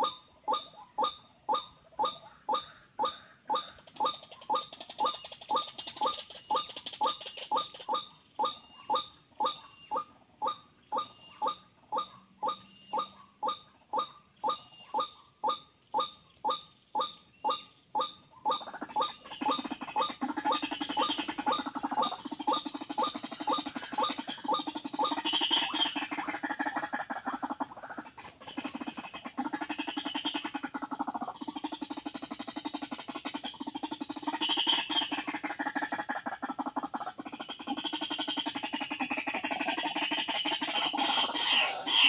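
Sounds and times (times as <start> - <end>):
harsh buzzing bird calling: 0.0 - 42.0.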